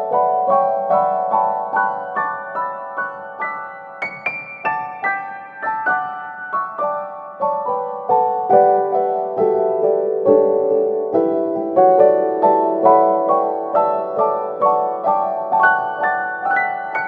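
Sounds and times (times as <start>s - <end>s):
piano notes: 0.0s - 17.0s.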